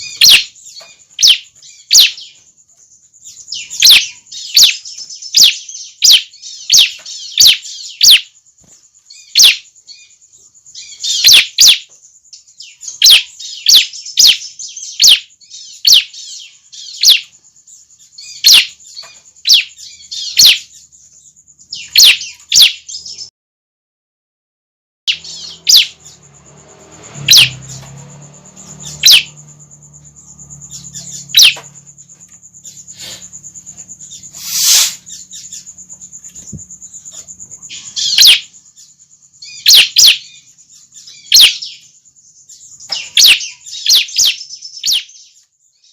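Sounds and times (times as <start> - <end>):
young birds chirping: 0.0 - 23.3, 25.1 - 45.9.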